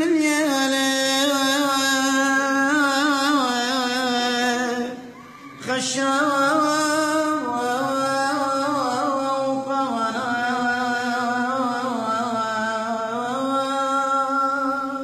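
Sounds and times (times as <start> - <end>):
man chanting a hymn: 0.0 - 15.0.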